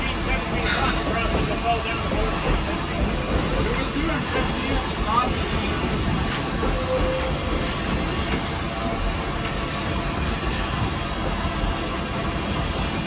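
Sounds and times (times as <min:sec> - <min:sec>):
steam locomotive running: 0:00.0 - 0:13.0.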